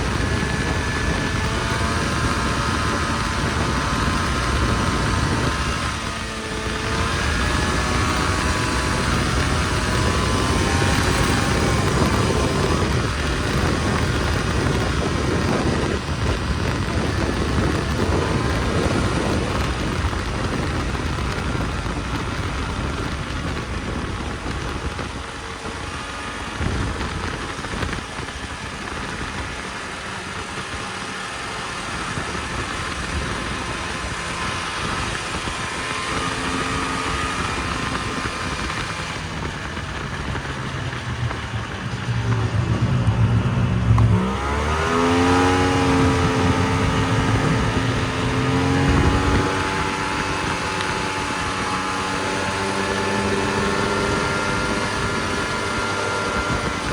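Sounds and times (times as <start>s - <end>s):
snowmobile engine running: 0.0s - 56.9s
steady rushing noise: 0.0s - 56.9s.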